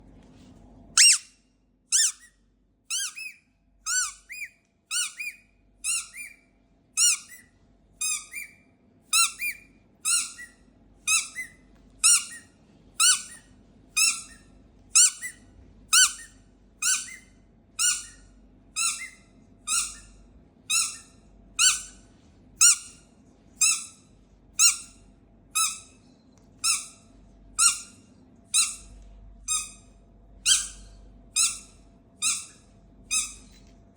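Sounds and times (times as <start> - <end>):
squeaky dog toy squeaking: 1.0 - 6.4, 7.0 - 18.2, 18.8 - 22.0, 22.6 - 23.0, 23.6 - 24.0, 24.6 - 25.0, 25.6 - 25.9, 26.6 - 27.0, 27.6 - 28.9, 29.5 - 33.6.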